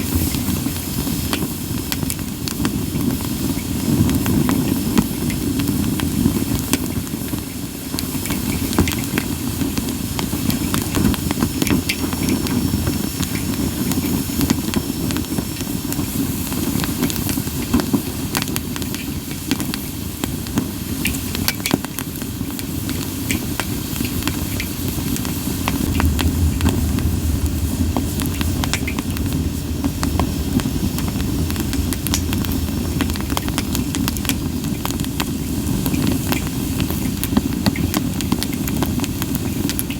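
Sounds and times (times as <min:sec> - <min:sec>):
fire pops and crackles: 0:00.0 - 0:39.9
low rumble of flame: 0:00.0 - 0:39.9.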